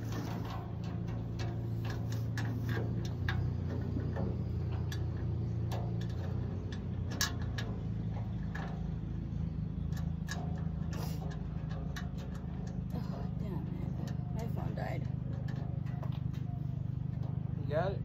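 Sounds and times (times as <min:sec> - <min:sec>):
sheet metal parts clicking: 0:00.0 - 0:17.5
steady low hum: 0:00.0 - 0:18.0.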